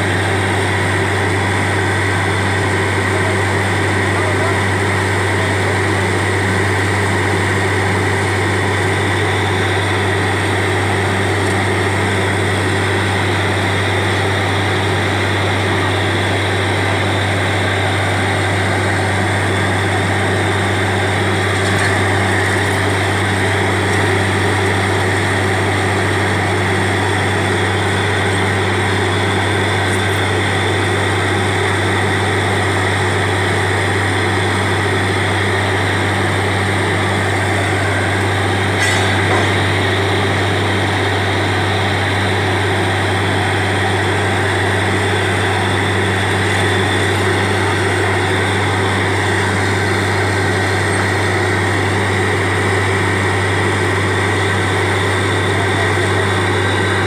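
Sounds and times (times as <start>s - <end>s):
drilling rig droning: 0.0s - 57.0s
muddy water gushing: 0.0s - 57.0s.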